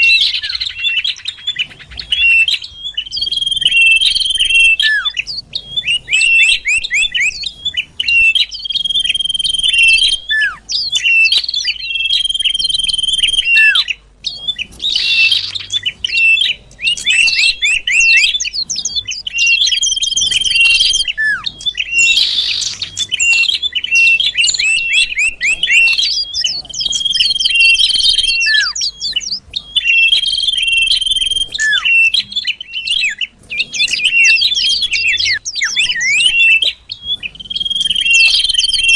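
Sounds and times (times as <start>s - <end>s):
rapid twittering bird chirps: 0.0s - 38.9s
short downslurred bird notes: 0.0s - 38.9s.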